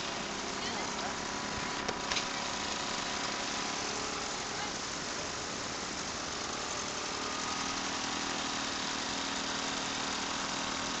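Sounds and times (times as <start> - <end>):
moped engines idling: 0.0 - 11.0.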